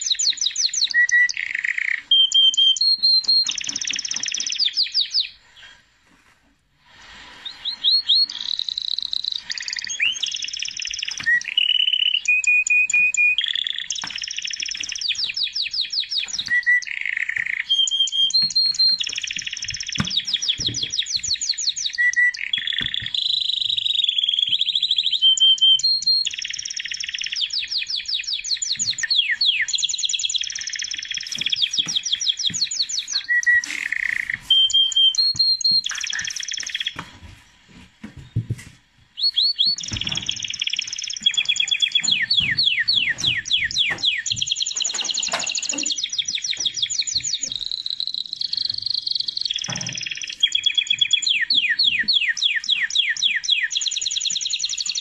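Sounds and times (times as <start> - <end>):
songbird trilling and whistling: 0.0 - 5.4, 7.4 - 37.0, 39.2 - 55.0.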